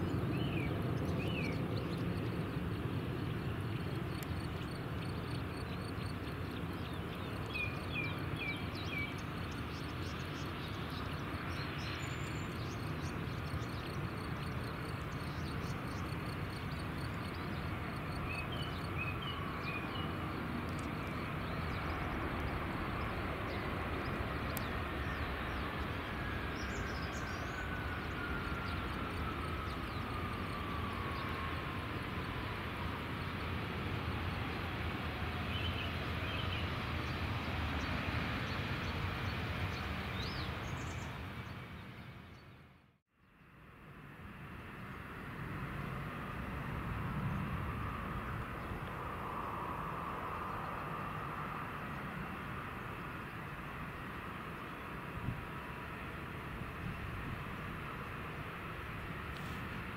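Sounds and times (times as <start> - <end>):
jet engines rumbling: 0.0 - 42.4, 43.9 - 59.9.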